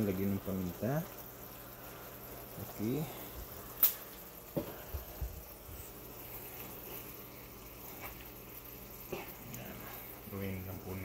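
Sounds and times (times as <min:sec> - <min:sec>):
sauce simmering in frying pan: 0:00.0 - 0:11.0.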